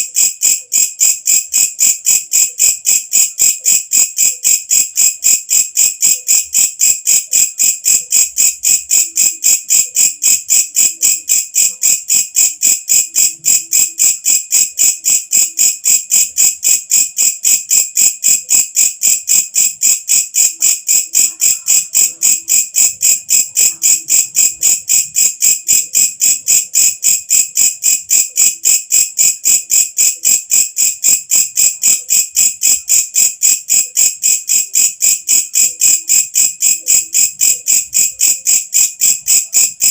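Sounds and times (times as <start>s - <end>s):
insect shrill pulsing call: 0.0s - 39.9s.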